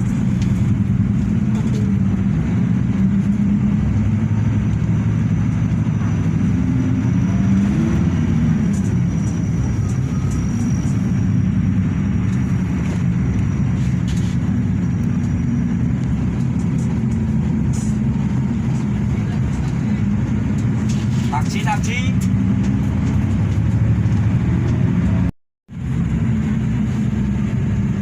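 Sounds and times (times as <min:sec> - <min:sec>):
bus diesel engine humming: 0:00.0 - 0:28.0.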